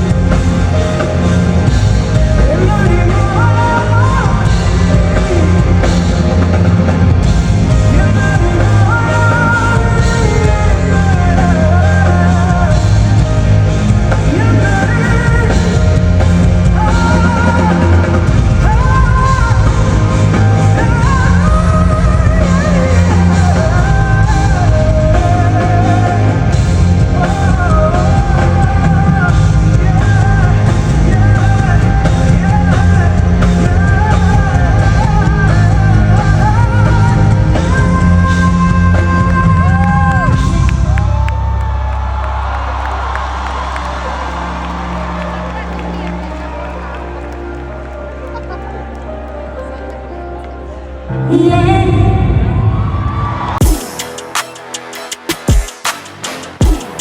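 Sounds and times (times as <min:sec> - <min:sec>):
person singing: 0:00.0 - 0:41.0, 0:49.7 - 0:55.6
live band music: 0:00.0 - 0:41.6, 0:42.2 - 0:57.0.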